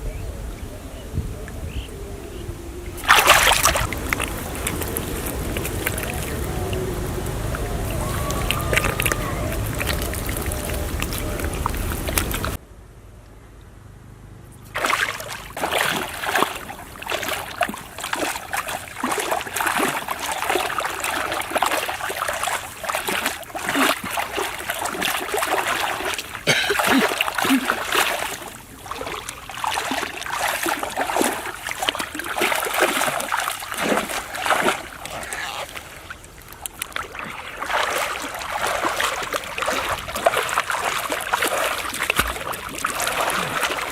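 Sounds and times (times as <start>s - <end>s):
water splashing and sloshing: 0.9s - 12.6s, 14.6s - 43.9s.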